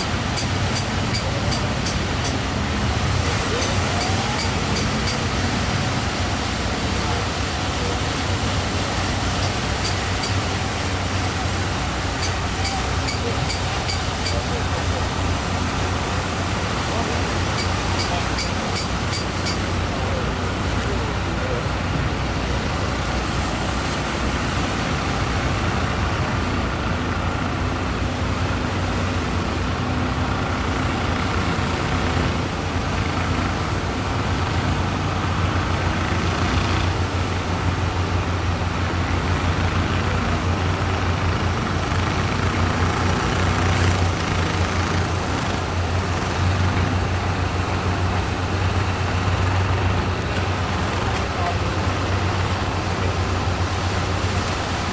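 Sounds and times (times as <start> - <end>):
boat engine rumbling: 0.0 - 54.9
surf: 0.0 - 54.9.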